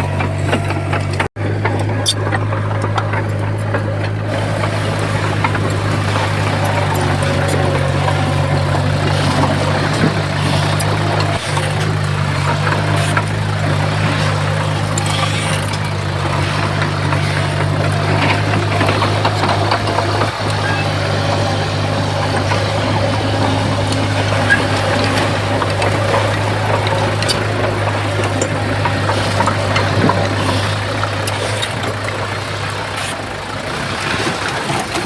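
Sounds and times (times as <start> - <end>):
diesel machinery engine hum: 0.0 - 35.0.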